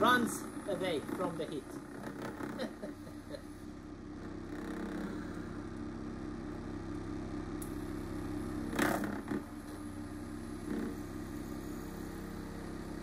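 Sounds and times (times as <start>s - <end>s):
heat engine buzzing drone: 0.0s - 13.0s.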